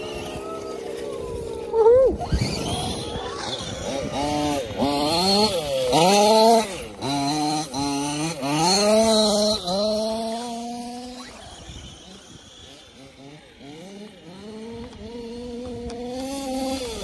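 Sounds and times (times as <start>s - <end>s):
small two-stroke engine revving: 0.0s - 17.0s.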